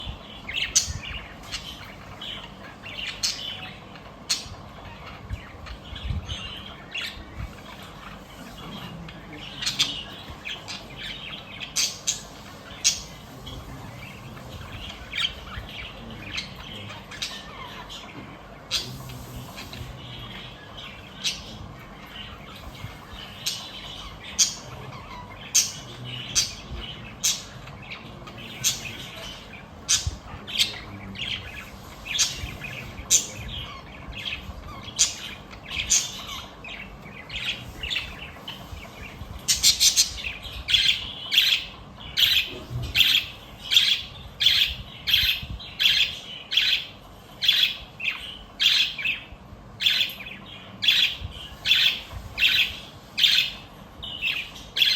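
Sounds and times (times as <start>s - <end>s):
budgies chirping and squawking: 0.0s - 54.9s.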